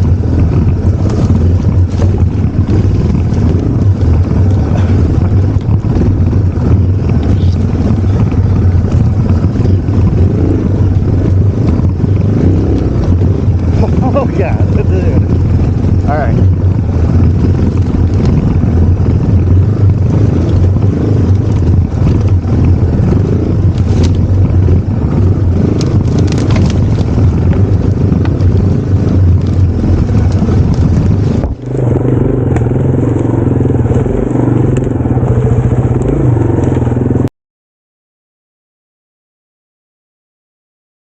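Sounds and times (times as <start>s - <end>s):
motorcycle engine running: 0.0s - 37.3s
brush crunching under wheels: 0.2s - 16.2s, 17.0s - 34.9s.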